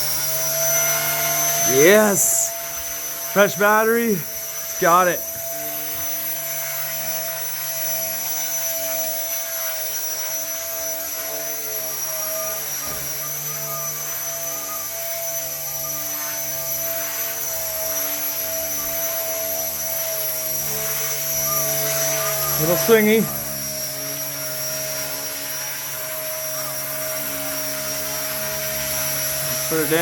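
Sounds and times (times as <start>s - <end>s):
spinning rotor hum: 0.0s - 30.0s
toy helicopter motor whining: 0.0s - 30.0s.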